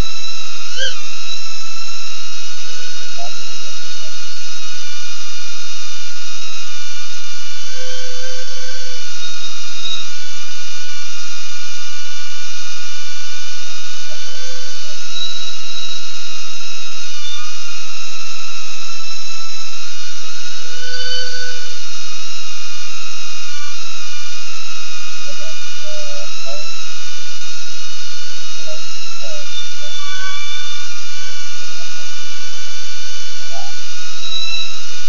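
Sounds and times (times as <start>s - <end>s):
drone motors whining: 0.0s - 10.2s, 14.1s - 34.8s.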